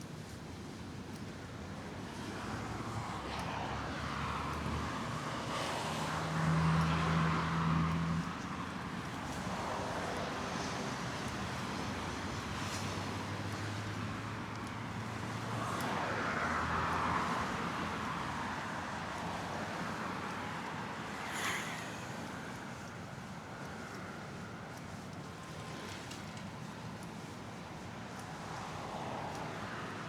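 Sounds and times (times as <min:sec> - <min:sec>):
steady road traffic: 0:00.0 - 0:30.0.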